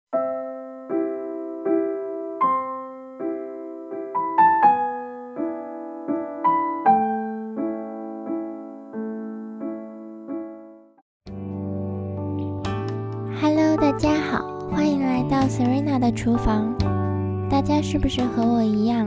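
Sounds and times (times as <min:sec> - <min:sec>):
gentle piano music: 0:00.1 - 0:19.0.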